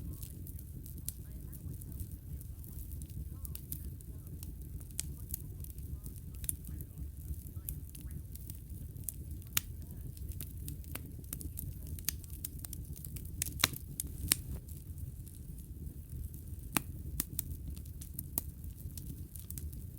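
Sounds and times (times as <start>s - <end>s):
low rumble: 0.0s - 19.9s
wood fire crackling: 0.0s - 19.9s.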